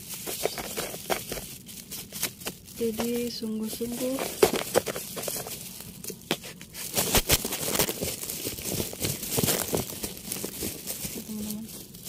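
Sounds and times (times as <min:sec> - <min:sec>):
hands digging through soil: 0:00.0 - 0:12.0
roots snapping: 0:00.0 - 0:12.0.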